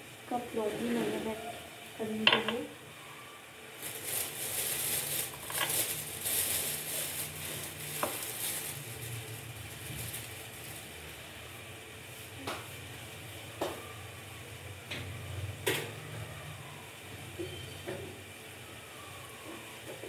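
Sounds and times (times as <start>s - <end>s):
syrup crackling sizzle: 1.4s - 20.0s.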